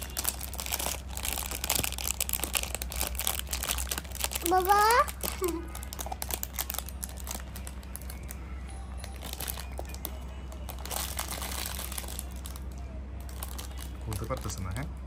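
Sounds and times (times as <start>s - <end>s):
plastic bag crinkling: 0.0s - 8.4s, 9.0s - 14.9s.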